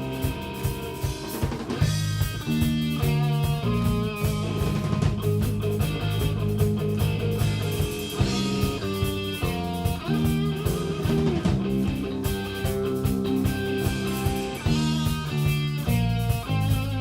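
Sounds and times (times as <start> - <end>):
bass guitar: 0.0 - 17.0
electric guitar: 0.0 - 17.0
steady drum beat: 0.0 - 17.0.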